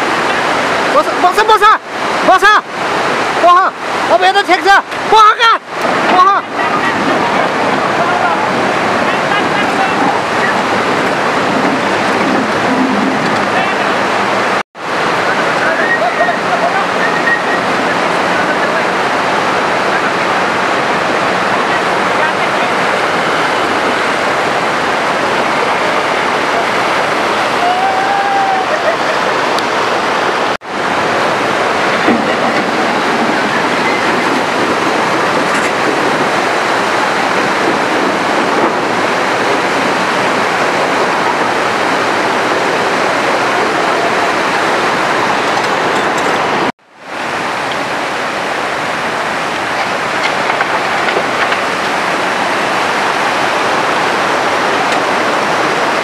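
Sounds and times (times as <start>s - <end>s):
river rushing over boulders: 0.0s - 56.0s.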